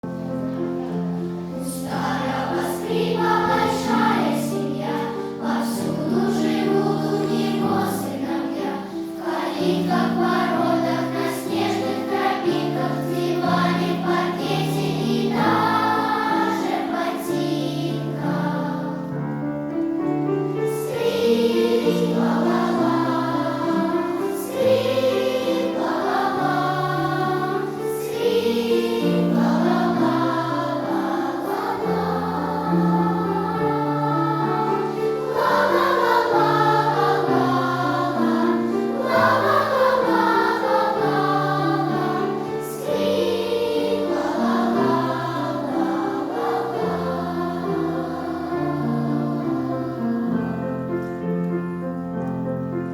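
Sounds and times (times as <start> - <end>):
choir singing: 0.0 - 51.2.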